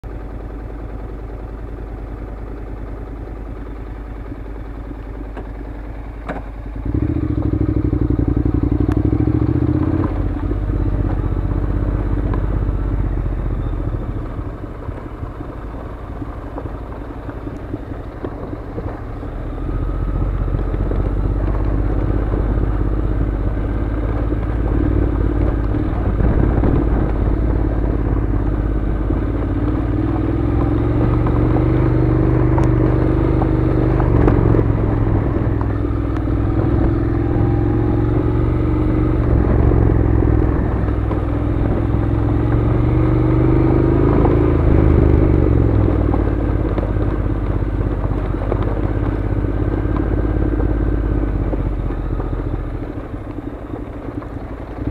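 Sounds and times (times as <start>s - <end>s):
gravel crackling under tyres: 0.0s - 54.9s
motorcycle engine: 0.0s - 54.9s.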